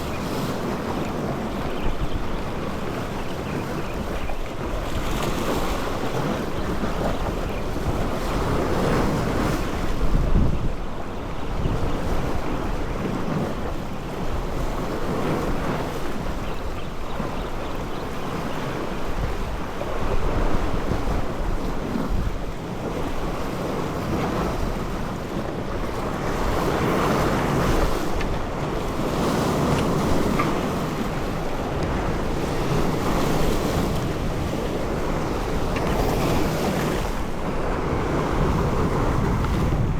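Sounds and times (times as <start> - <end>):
sea waves washing: 0.0 - 39.9
wind buffeting microphone: 0.0 - 39.9.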